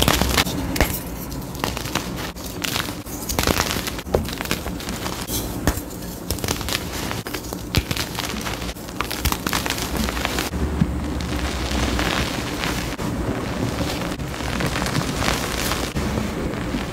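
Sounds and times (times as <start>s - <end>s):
chalk crunching and crackling: 0.0s - 16.9s.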